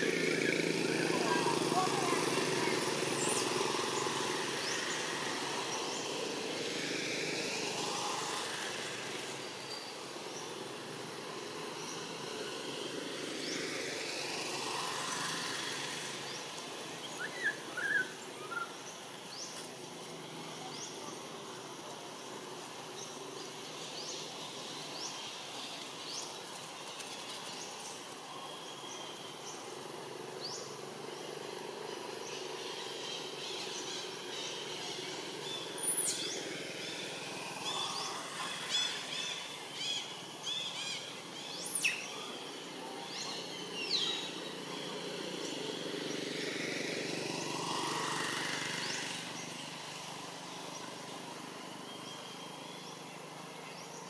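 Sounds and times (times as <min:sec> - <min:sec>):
broad swell of noise: 0:00.0 - 0:54.0
steady background hiss: 0:00.0 - 0:54.0.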